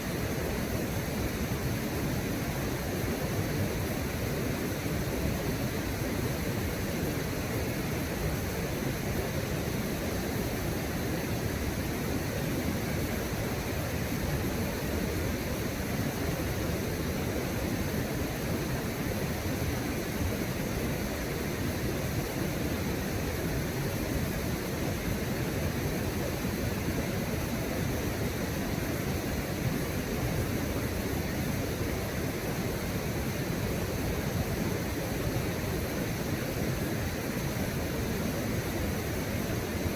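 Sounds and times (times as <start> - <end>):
water rushing from river and waterfall: 0.0 - 39.9.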